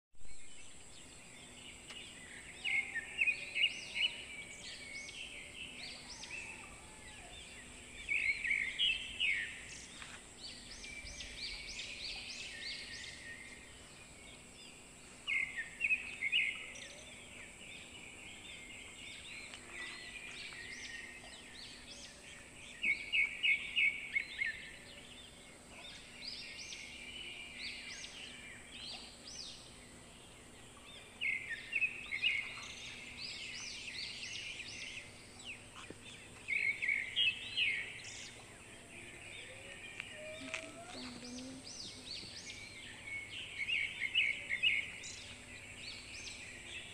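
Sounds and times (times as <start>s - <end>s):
birds chirping: 0.2s - 46.9s
faint high hiss: 0.2s - 46.9s.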